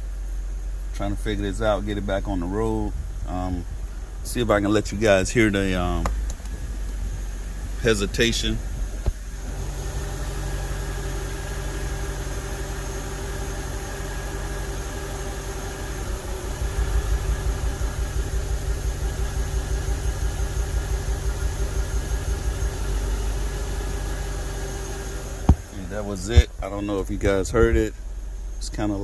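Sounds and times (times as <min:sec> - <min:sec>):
car engine idling unevenly: 0:00.0 - 0:29.0.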